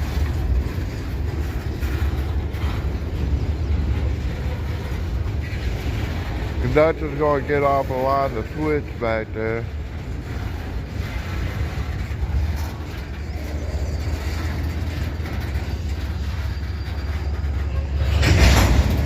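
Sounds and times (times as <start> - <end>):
freight train wheels rumbling: 0.0 - 19.0
loud rush of noise: 0.0 - 19.0.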